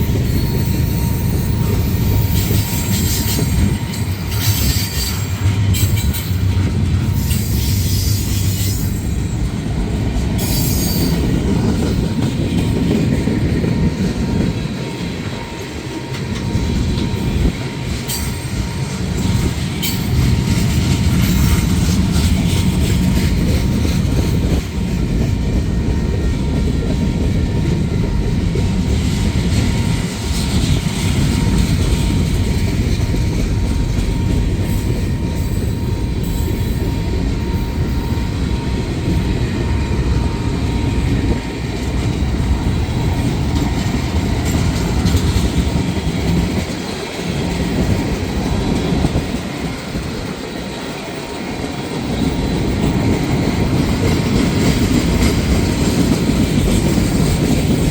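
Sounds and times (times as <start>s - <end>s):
train wheels rumbling on rails: 0.0s - 57.9s
wheels clacking over rail joints: 0.0s - 57.9s.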